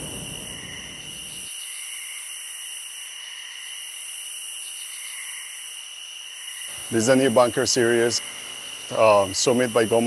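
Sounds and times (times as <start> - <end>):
steady high hiss: 0.0 - 3.0, 3.9 - 10.0.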